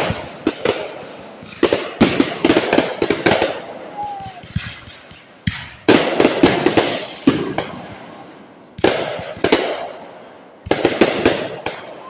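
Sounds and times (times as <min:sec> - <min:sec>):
fireworks bangs with echo: 0:00.0 - 0:12.0.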